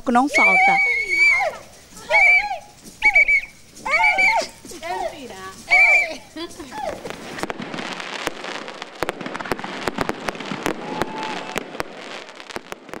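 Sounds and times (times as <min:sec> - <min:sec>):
fireworks bangs and cracks: 0:00.0 - 0:13.0
fireworks crackling hiss: 0:00.0 - 0:13.0.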